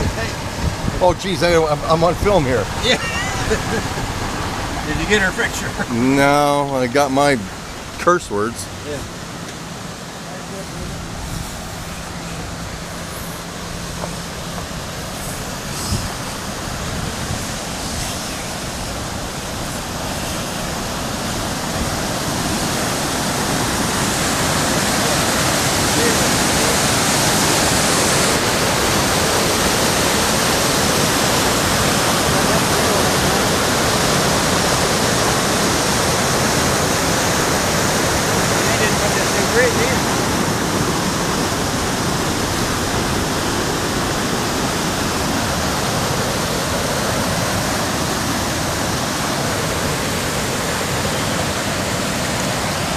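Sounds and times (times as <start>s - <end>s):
floodwater rushing from culvert: 0.0s - 52.9s.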